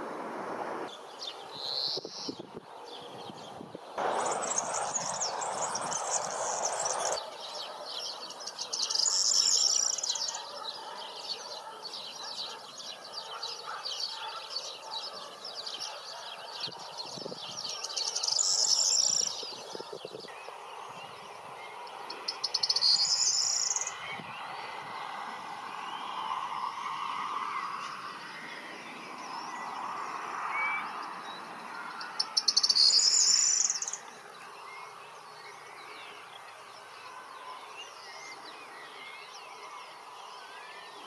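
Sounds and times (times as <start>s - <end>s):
loud bird song phrases: 0.9s - 41.0s
songbirds twittering: 0.9s - 41.0s.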